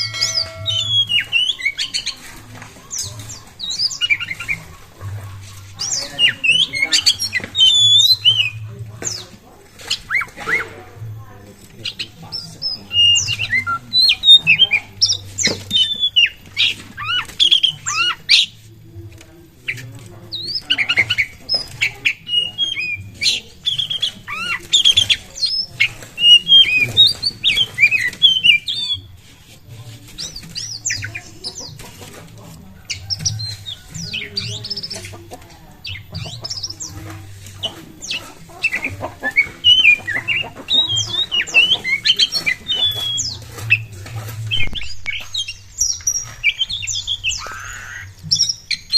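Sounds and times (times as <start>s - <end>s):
bird singing whistles and chatter: 0.0s - 48.9s.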